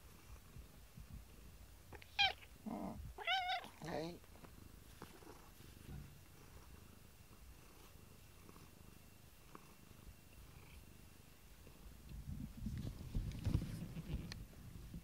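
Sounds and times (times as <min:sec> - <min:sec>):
cat purring: 0:00.0 - 0:14.4.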